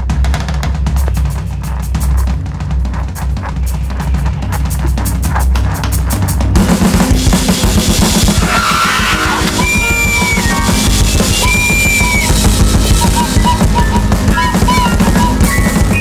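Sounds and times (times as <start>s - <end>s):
electronic drums played fast: 0.0s - 16.0s.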